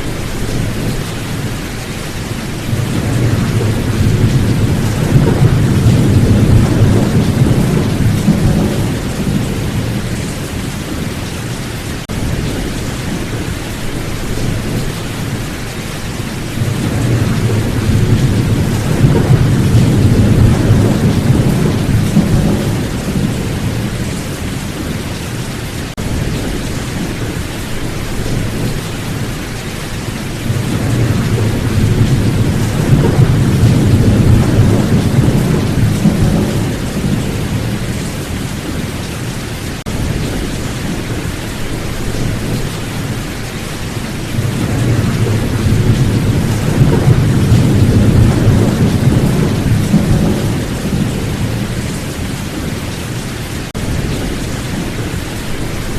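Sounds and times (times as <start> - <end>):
low rolling thunder: 0.0 - 11.3, 12.0 - 25.1, 26.0 - 55.9
heavy rain hissing: 0.0 - 55.9.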